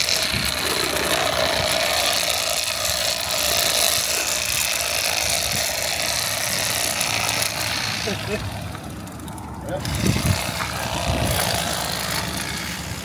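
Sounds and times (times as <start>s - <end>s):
blades sawing through fish fin: 0.0s - 13.0s
electric knife buzzing: 0.0s - 13.0s.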